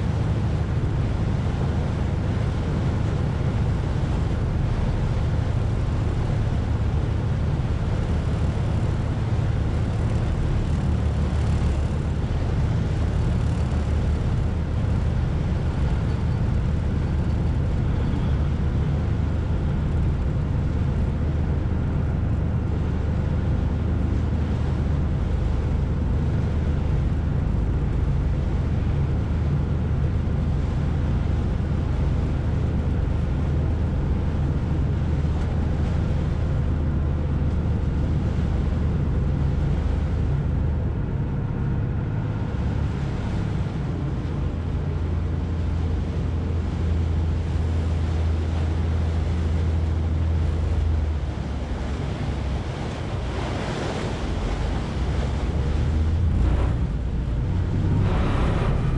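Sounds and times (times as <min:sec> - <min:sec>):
ferry engine drone: 0:00.0 - 0:58.9
rush of water and wind: 0:00.0 - 0:58.9.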